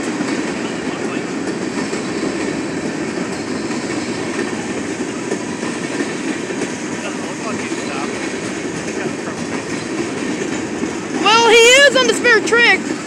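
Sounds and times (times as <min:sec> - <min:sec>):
steel wheels rolling on rails: 0:00.0 - 0:13.0.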